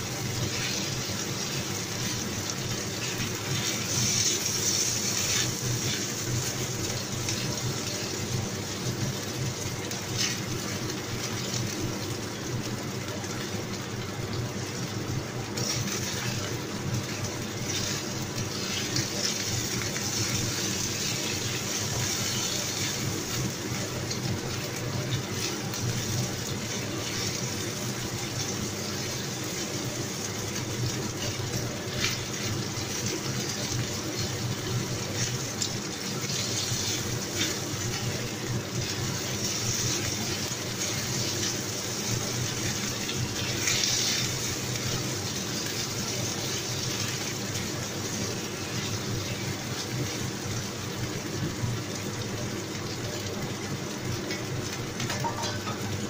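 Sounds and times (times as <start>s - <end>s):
chicken sizzling in hot oil: 0.0s - 56.0s.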